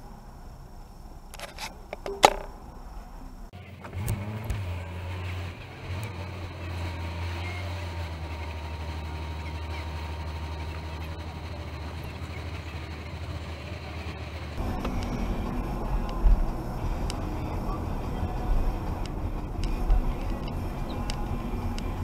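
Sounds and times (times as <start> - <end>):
car driving at speed: 0.0 - 22.0
car engine idling: 0.0 - 22.0.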